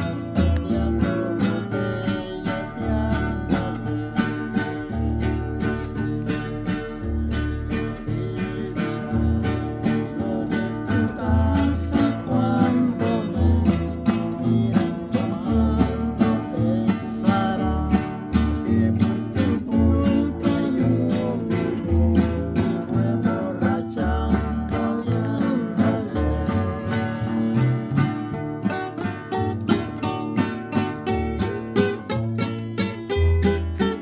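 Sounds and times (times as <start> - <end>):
strummed acoustic guitar song: 0.0 - 34.0.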